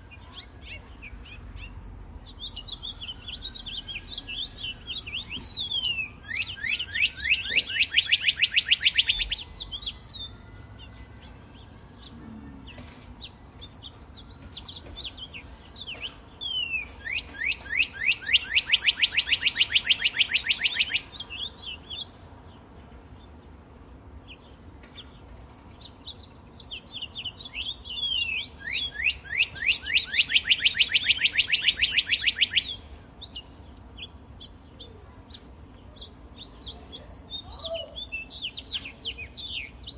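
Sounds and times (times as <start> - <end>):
songbird trilling: 0.1 - 22.2, 25.8 - 39.9.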